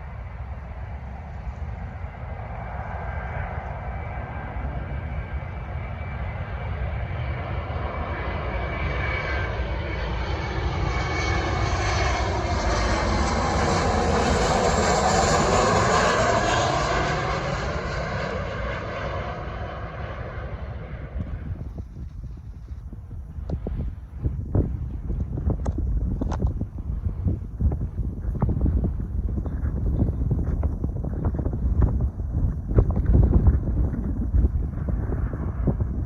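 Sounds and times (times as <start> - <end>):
jet airliner flying past: 0.0 - 36.0.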